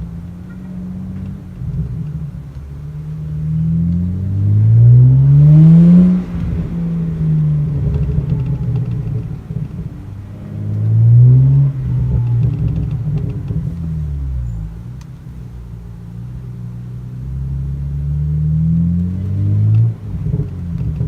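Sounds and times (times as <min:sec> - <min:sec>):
car engine accelerating hard: 0:00.0 - 0:21.0
exhaust crackles and pops: 0:00.0 - 0:21.0.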